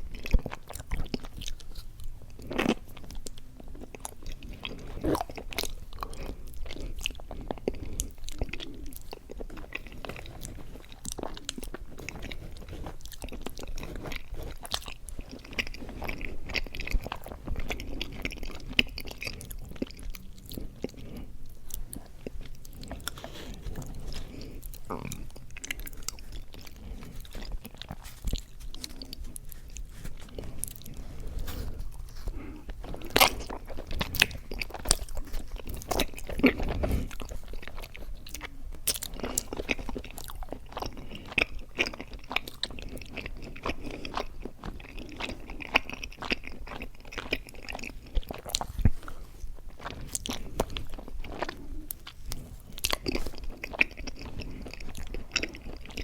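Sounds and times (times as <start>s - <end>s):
chewing and biting mouth sounds: 0.0s - 56.0s.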